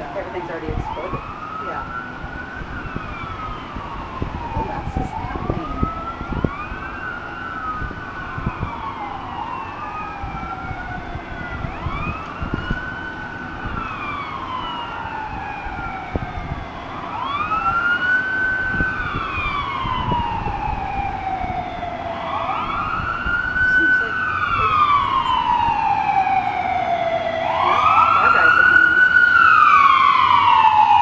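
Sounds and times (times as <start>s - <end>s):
sirens wailing: 0.0s - 31.0s.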